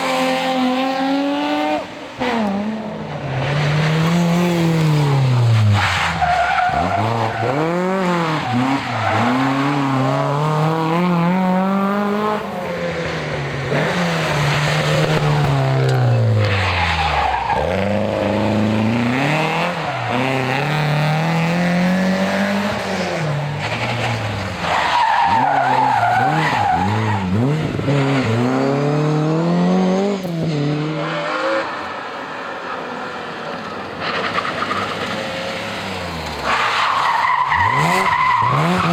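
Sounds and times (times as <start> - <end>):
rally car engines revving: 0.0 - 38.9
tyres skidding: 0.0 - 38.9.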